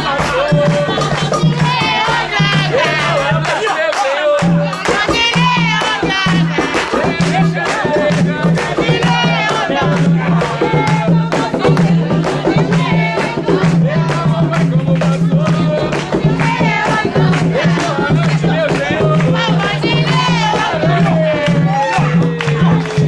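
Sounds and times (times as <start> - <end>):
drums beating quick rhythm: 0.0 - 23.0
group singing a chant: 0.0 - 23.0.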